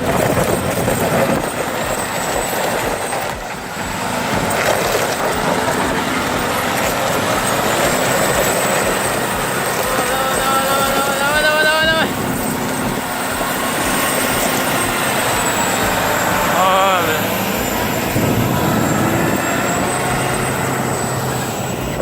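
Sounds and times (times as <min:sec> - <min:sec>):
truck diesel engine labouring: 0:00.0 - 0:22.0.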